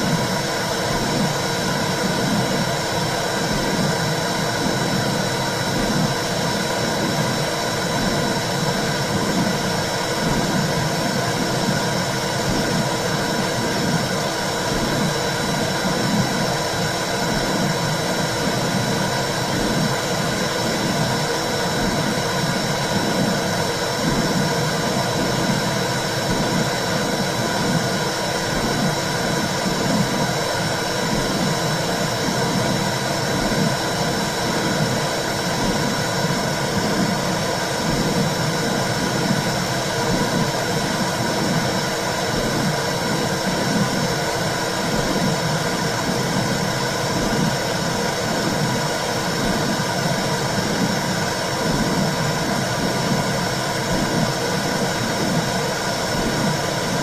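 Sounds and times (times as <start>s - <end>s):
low rhythmic heartbeat pulse: 0.0s - 57.0s.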